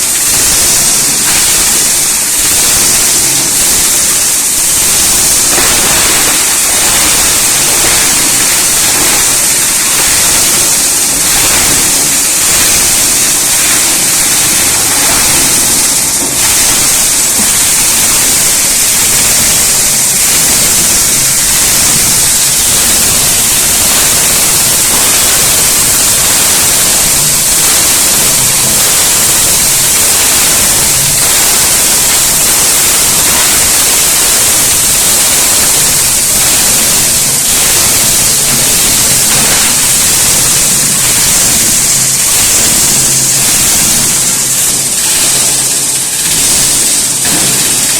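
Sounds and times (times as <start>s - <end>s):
grinder machine grinding: 0.0s - 47.9s.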